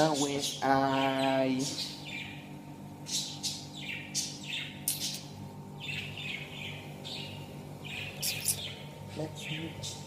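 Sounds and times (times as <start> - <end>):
pet birds calling: 0.0 - 10.0
steady low hum: 0.0 - 10.0.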